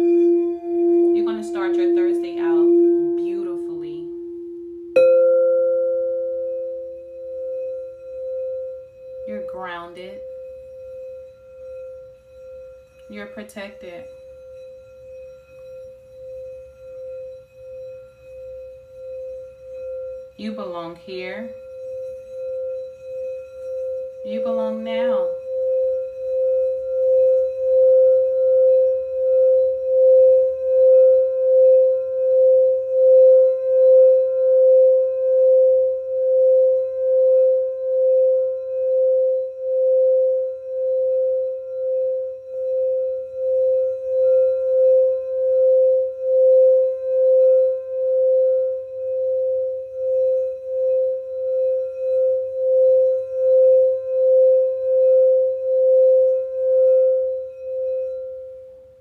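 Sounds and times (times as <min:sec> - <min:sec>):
singing bowl ringing: 0:00.0 - 0:59.0.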